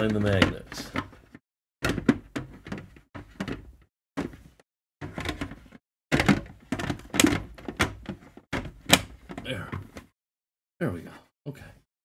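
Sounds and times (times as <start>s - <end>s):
plastic parts knocking together: 0.0s - 10.1s.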